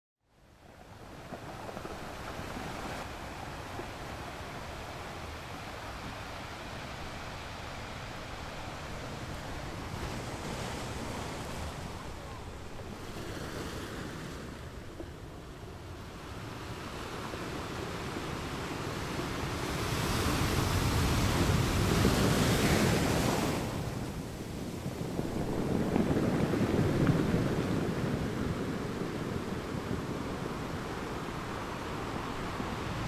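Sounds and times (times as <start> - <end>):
sea surf washing on shore: 0.6 - 33.0.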